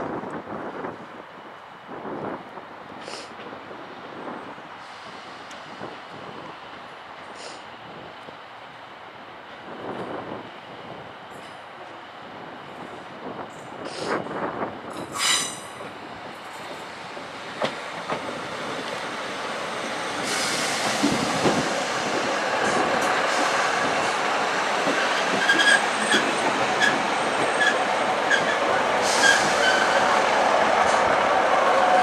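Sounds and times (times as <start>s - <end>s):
diesel railcars running past: 0.0s - 32.0s.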